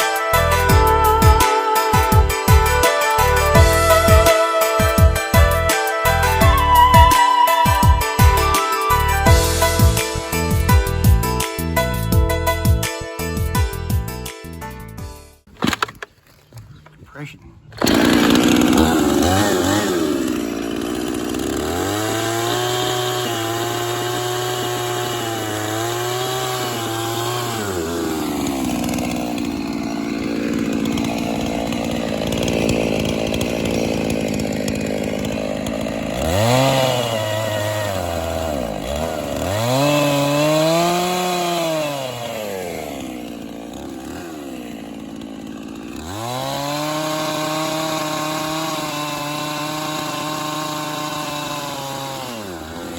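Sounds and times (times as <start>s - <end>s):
chainsaw cutting wood: 0.0s - 14.5s, 15.4s - 52.9s.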